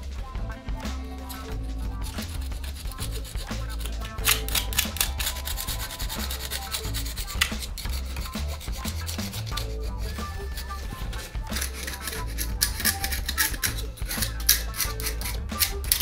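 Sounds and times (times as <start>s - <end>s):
background music: 0.0s - 16.0s
rough scraping strokes: 0.9s - 16.0s.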